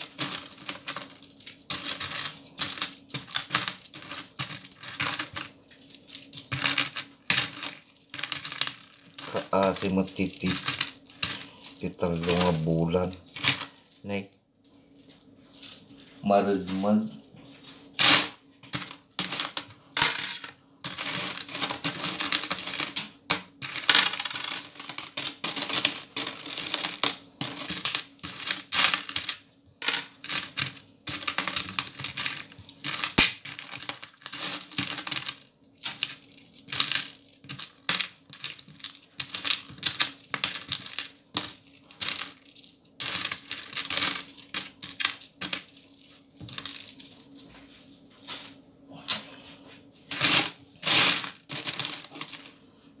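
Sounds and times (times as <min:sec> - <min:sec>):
coins clinking: 0:00.0 - 0:14.1, 0:18.0 - 0:47.4, 0:50.1 - 0:52.5.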